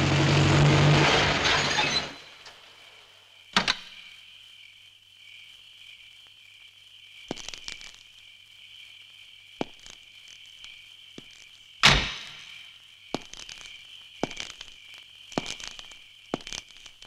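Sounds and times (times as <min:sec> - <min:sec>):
crickets chirping: 0:01.2 - 0:17.0.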